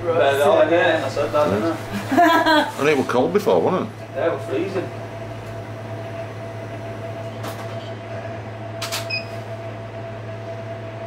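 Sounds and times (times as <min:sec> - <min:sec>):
machinery electrical hum: 0:00.0 - 0:11.0.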